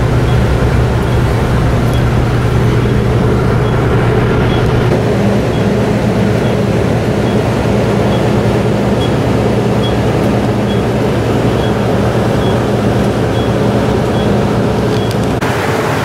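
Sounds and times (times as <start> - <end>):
low steady hum: 0.0 - 15.4
wind and rain on microphone: 0.0 - 16.0.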